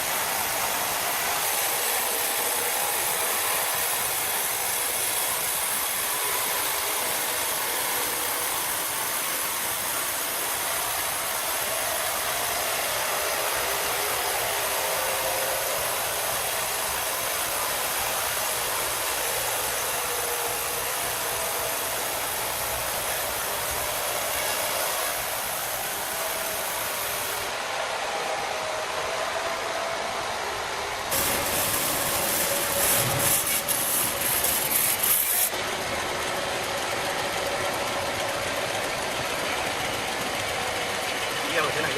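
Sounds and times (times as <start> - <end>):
machine hissing: 0.0 - 29.4, 30.0 - 41.9.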